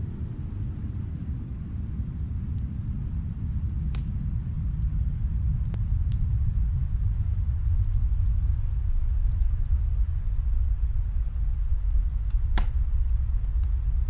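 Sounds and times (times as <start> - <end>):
fire popping: 0.0 - 14.0
log fire crackling: 0.0 - 14.0
low rumble: 0.0 - 14.0.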